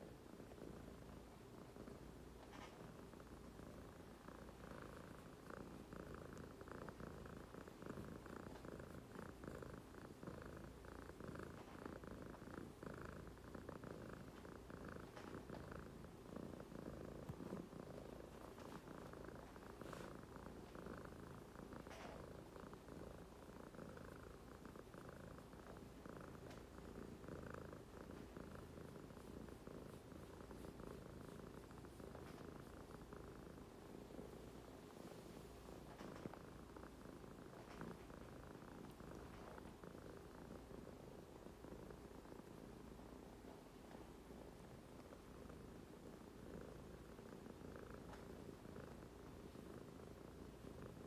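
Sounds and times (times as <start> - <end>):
cat purring: 0.0 - 51.0.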